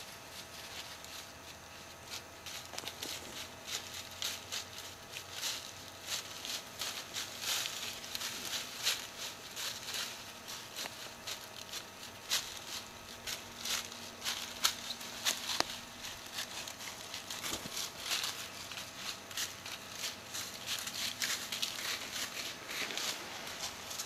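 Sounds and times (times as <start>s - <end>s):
footsteps crunching dry leaves: 0.0s - 24.0s.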